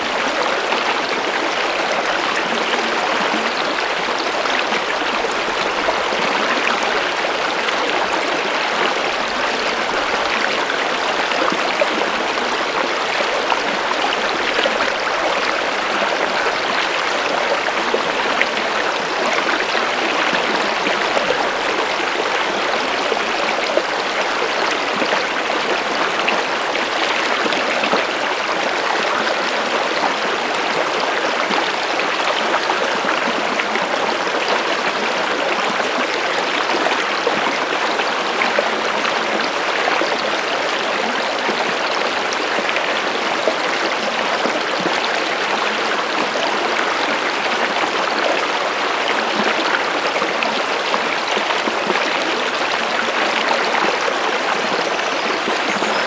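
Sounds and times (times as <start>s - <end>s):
stream water babbling: 0.0s - 56.0s.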